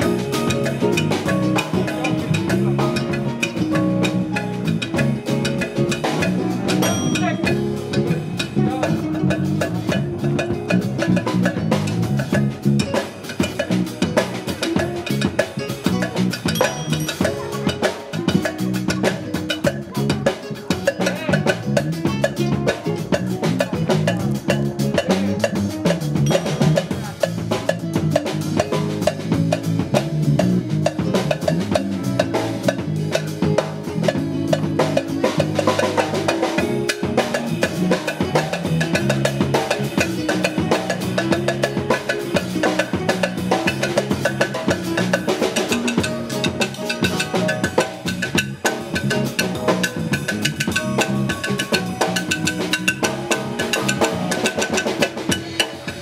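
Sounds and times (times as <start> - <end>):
busy drum kit: 0.0 - 56.0
jazz group playing: 0.0 - 56.0.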